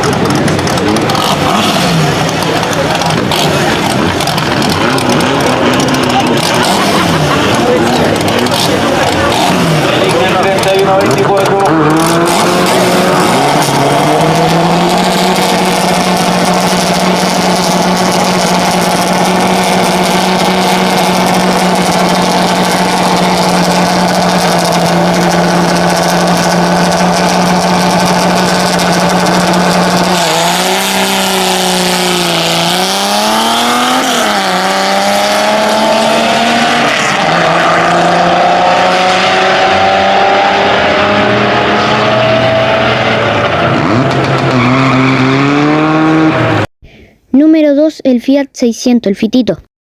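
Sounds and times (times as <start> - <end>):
race car engine revving: 0.0 - 46.7.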